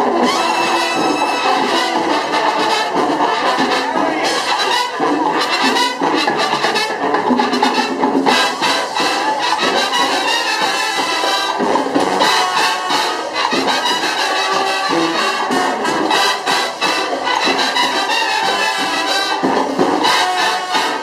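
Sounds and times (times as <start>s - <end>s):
brass carrying the tune: 0.0s - 21.0s
marching percussion hits: 0.0s - 21.0s.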